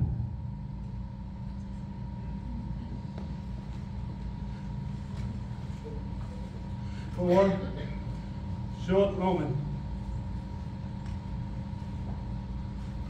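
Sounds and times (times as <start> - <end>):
low room rumble with hum: 0.0 - 13.0.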